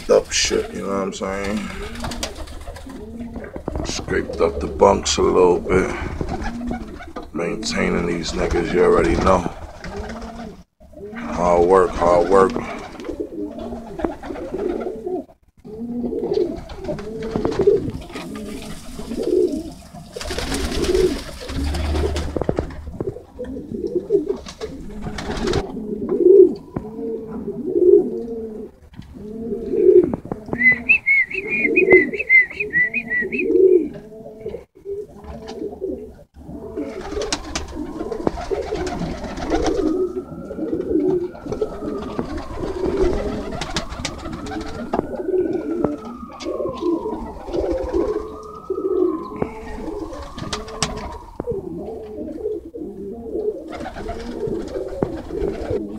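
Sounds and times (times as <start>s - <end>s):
pigeons cooing: 0.0s - 55.9s.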